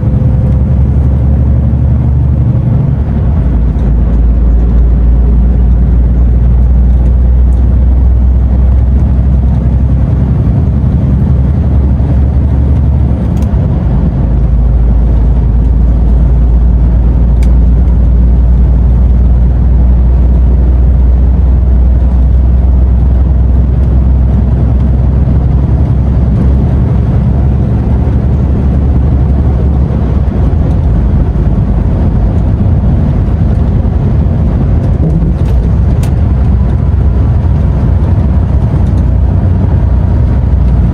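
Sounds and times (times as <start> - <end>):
diesel engine drone: 0.0 - 40.9
road and tyre noise: 0.0 - 40.9.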